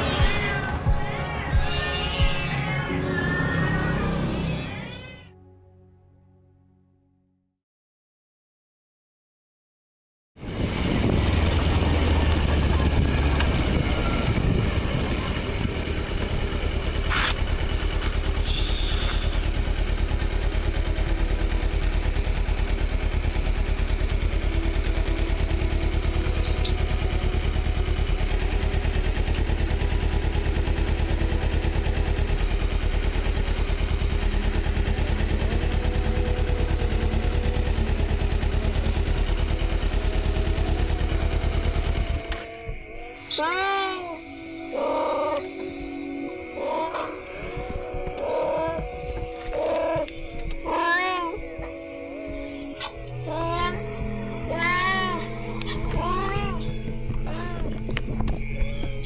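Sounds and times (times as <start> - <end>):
vehicle engine rumbling: 0.0 - 5.3, 10.4 - 59.0.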